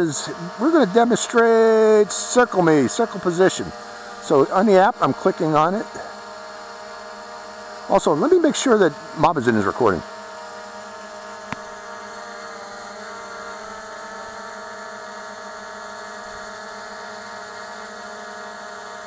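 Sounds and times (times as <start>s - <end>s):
drone hovering hum: 0.0s - 19.0s.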